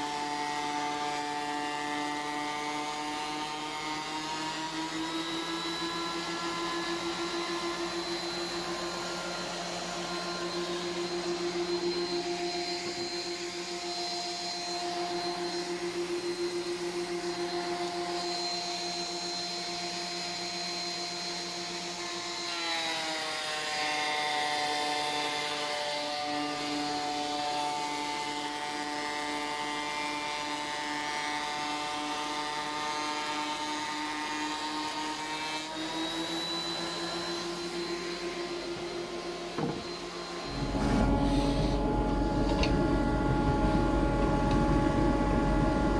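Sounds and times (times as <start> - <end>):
dust extractor running: 0.0 - 45.9
thickness planer motor whine: 0.0 - 45.9.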